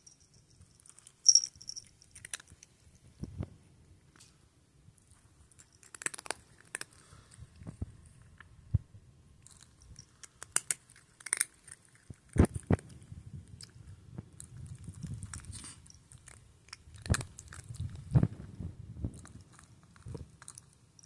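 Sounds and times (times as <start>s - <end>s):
cat crunching dry kibble: 0.6s - 3.2s, 5.0s - 8.5s, 9.4s - 21.0s.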